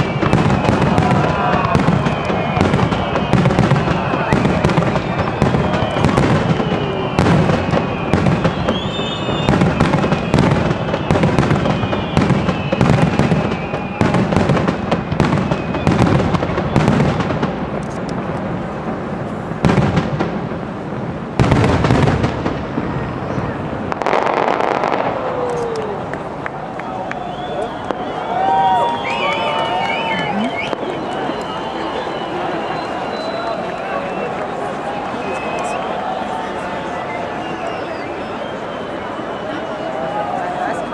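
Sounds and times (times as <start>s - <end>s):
fireworks whistles gliding down: 0.0s - 18.3s, 21.4s - 40.9s
dense crackling firework burst: 0.0s - 40.9s
fireworks bursts and bangs: 0.0s - 40.9s.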